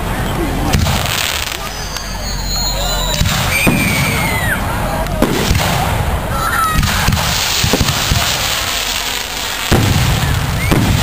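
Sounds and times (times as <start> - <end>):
fireworks booming: 0.6 - 11.0.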